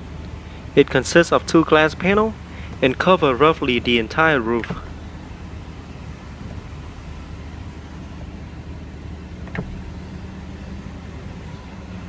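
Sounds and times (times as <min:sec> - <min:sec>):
car cabin hum: 0:00.0 - 0:12.0.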